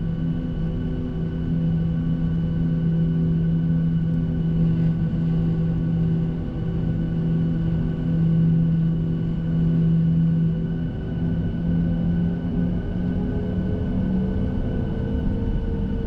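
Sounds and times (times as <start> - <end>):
jet engines humming in cabin: 0.0 - 16.0.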